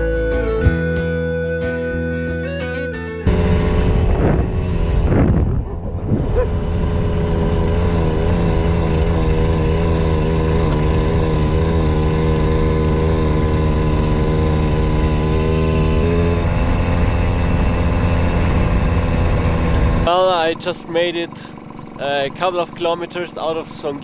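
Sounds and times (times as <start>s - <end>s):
moped engine running: 3.3s - 24.0s.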